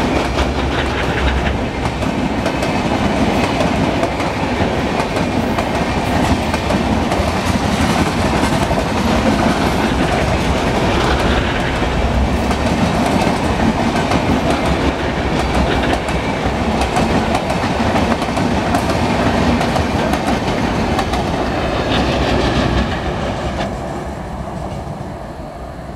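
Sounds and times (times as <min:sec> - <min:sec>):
train wheels clattering on rails: 0:00.0 - 0:25.1.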